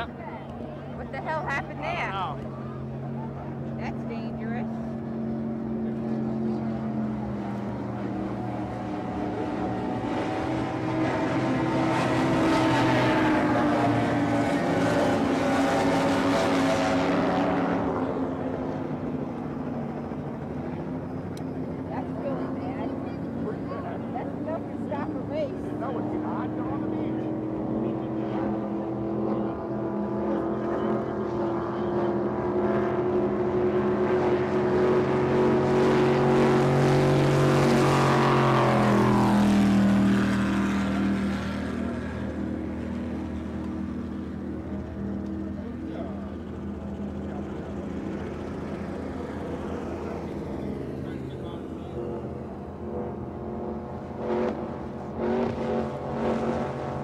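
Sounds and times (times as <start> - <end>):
race boat engines at speed: 0.0 - 57.0.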